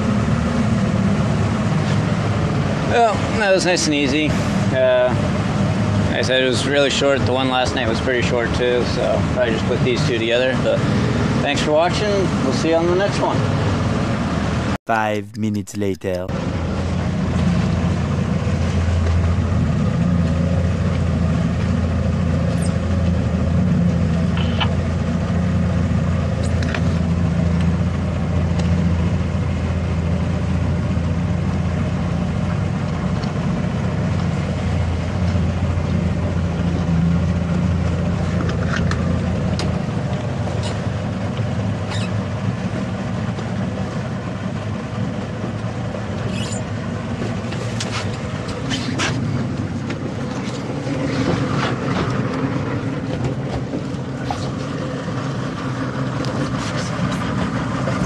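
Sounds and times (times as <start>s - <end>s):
boat engine droning: 0.0s - 14.8s, 16.1s - 58.0s.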